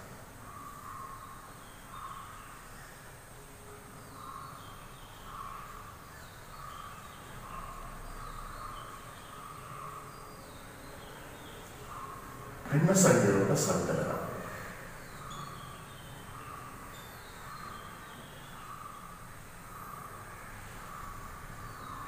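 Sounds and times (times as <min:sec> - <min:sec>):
crows cawing: 0:00.4 - 0:02.9, 0:04.1 - 0:10.4, 0:11.7 - 0:22.0.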